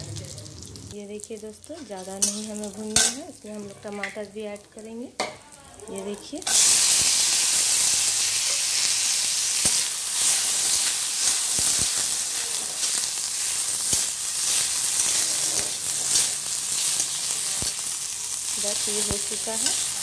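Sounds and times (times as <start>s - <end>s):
oil sizzling in a pan: 0.0s - 20.0s.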